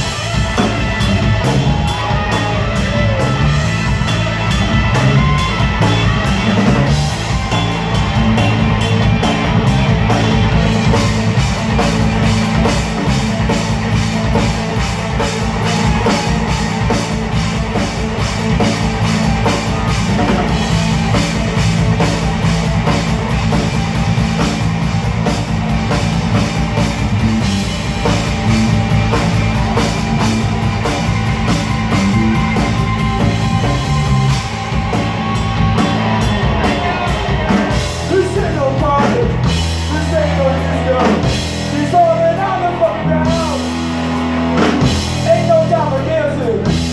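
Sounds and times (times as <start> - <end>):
drum kit: 0.0 - 46.9
electric bass: 0.0 - 46.9
electric guitar: 0.0 - 46.9.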